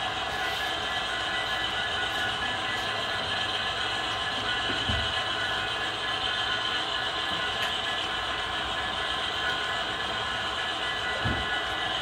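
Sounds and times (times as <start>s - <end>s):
model train cars rolling: 0.0s - 12.0s.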